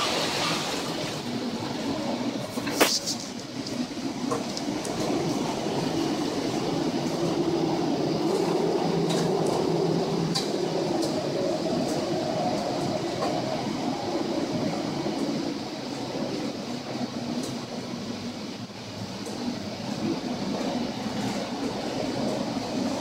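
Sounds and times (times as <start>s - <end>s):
heavy seas against the bow: 0.0s - 23.0s
ship engine rumble: 0.0s - 23.0s
wind: 0.0s - 23.0s.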